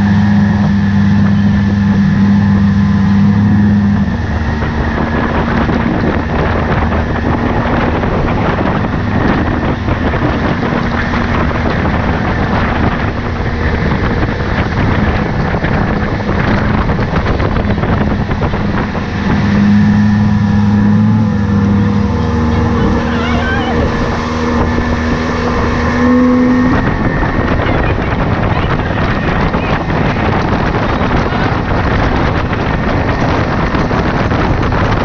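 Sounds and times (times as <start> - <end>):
outboard motor running: 0.0 - 35.0
wind on microphone: 0.0 - 35.0.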